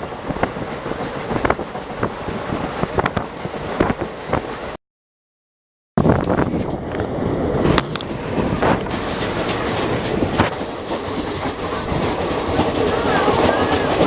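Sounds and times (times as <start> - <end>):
wheels clicking over rail joints: 0.0 - 4.5, 6.3 - 14.0
train rumble and wind rush: 0.0 - 4.8, 6.0 - 14.0.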